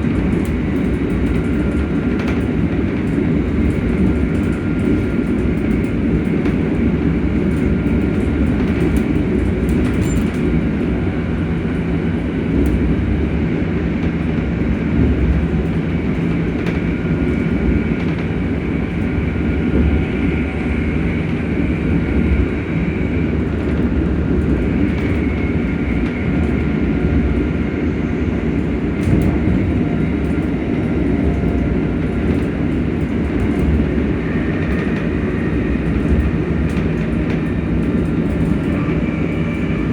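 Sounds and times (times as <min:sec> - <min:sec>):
electric train motors humming: 0:00.0 - 0:39.9
wheels rumbling on track: 0:00.0 - 0:39.9.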